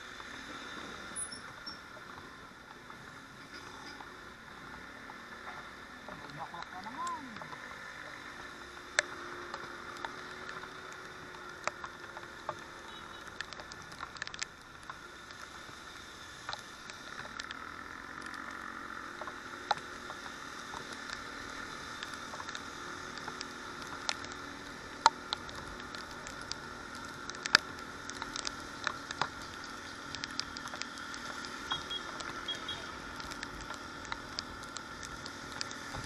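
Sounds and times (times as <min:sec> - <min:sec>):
rain and tyres hissing on wet road: 0:00.0 - 0:36.0
raindrops ticking on camera: 0:00.0 - 0:36.0.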